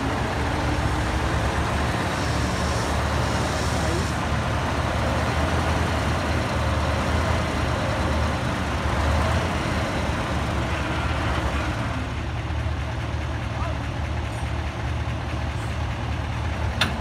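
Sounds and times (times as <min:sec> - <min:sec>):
diesel truck engine rumbling: 0:00.0 - 0:17.0.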